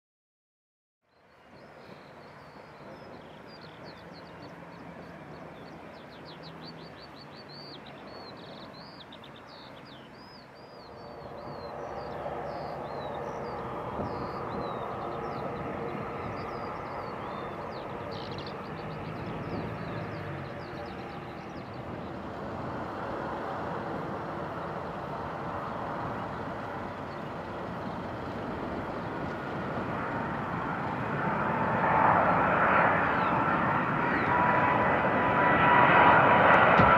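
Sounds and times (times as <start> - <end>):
propeller aircraft drone: 1.0 - 36.9
small birds chirping: 1.1 - 36.2.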